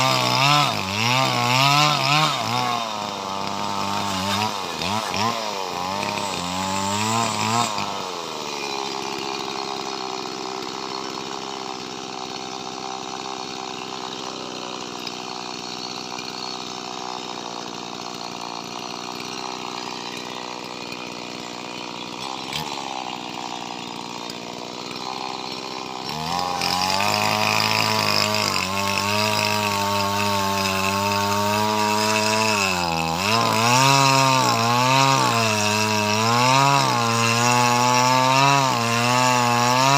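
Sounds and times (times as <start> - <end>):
chainsaw cutting wood: 0.0 - 39.9
chainsaw running: 0.0 - 39.9.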